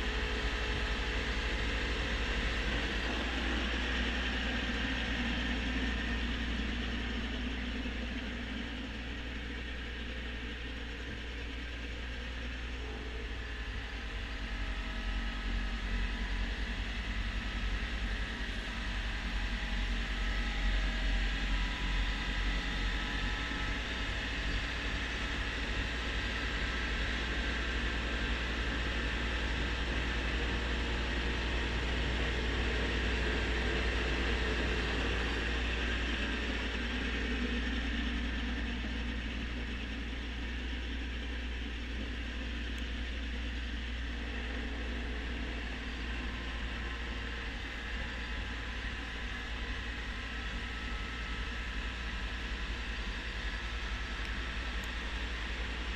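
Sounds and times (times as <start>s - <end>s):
tractor diesel engine drone: 0.0s - 55.9s.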